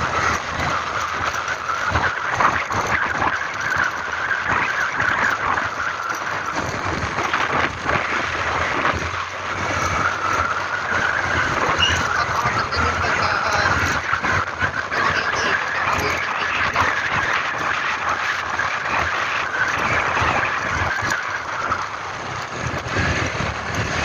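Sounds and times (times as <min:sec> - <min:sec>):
road noise: 0:00.0 - 0:24.0
vehicle engine: 0:00.0 - 0:24.0.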